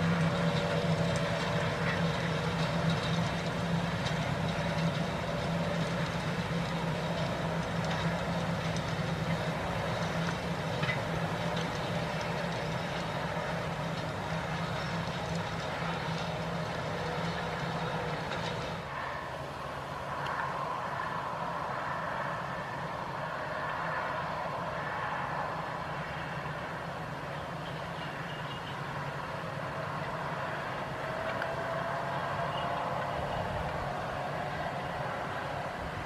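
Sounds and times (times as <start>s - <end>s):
tractor diesel engine droning: 0.0s - 36.0s.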